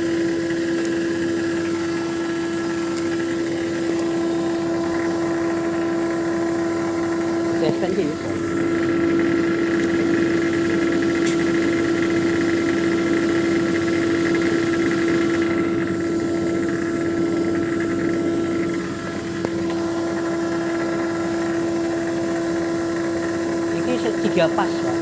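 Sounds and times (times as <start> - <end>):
electric motor humming: 0.0 - 25.0.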